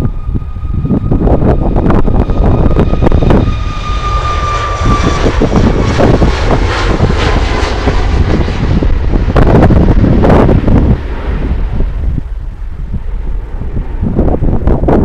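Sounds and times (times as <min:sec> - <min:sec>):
jet engines whining: 0:00.0 - 0:15.0
wind buffeting microphone: 0:00.0 - 0:15.0.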